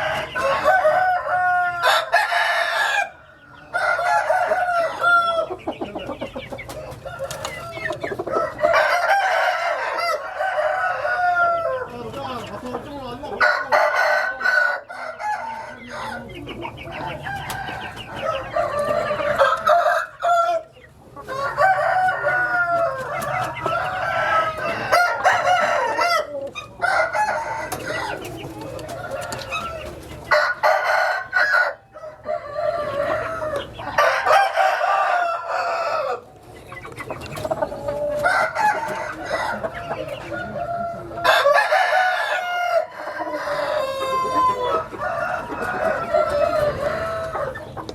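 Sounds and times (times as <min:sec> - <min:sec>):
chickens clucking: 0:00.0 - 0:47.9
roosters crowing: 0:00.0 - 0:47.9.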